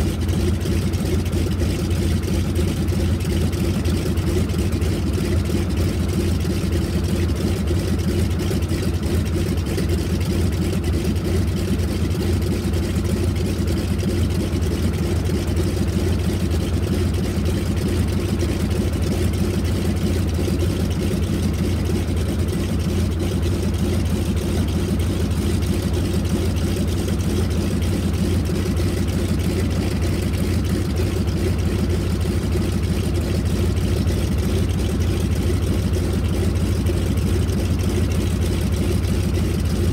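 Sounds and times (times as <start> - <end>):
radial aircraft engine idling: 0.0 - 39.9.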